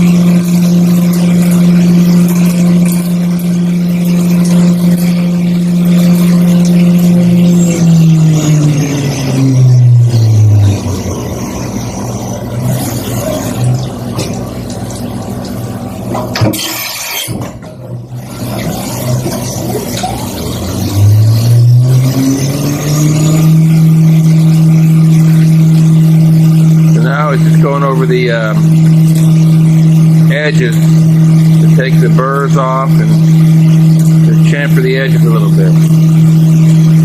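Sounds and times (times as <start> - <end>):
milling machine spindle whine: 0.0 - 16.4, 17.9 - 37.0.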